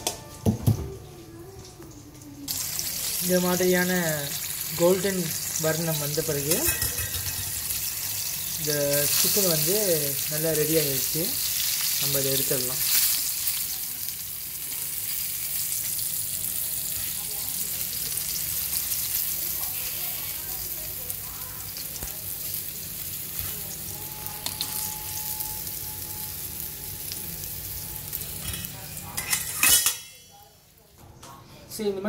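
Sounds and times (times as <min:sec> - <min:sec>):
chicken frying in hot oil: 0:00.6 - 0:29.4.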